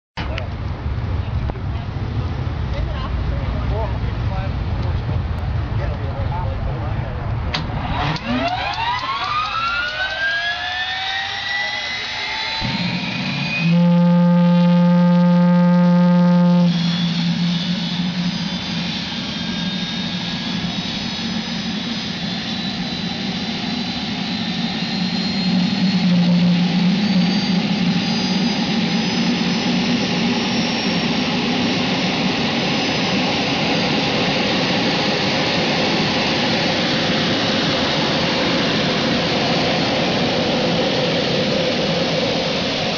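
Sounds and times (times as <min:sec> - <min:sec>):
turbine engine whining: 0:00.2 - 0:42.9
loud steady tone: 0:07.2 - 0:42.9.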